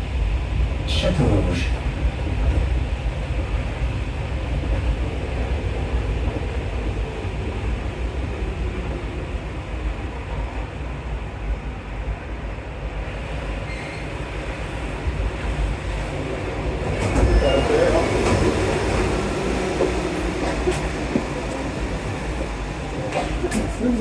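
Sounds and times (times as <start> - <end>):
train rumble from on board: 0.0 - 24.0.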